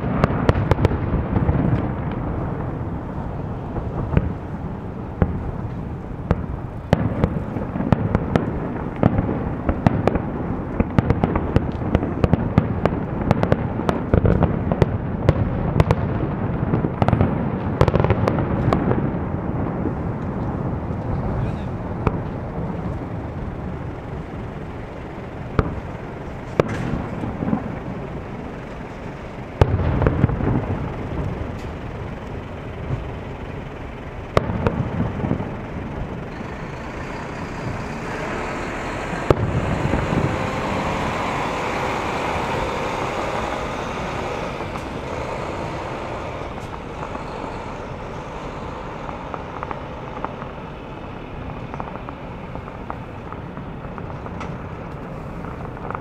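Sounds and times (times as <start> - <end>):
fireworks bursting: 0.0 - 56.0
road traffic noise: 0.0 - 56.0.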